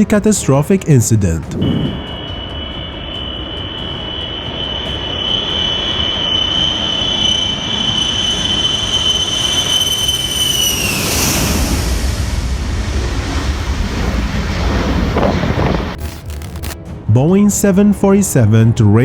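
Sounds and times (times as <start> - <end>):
jet engines at takeoff power: 0.0 - 16.8.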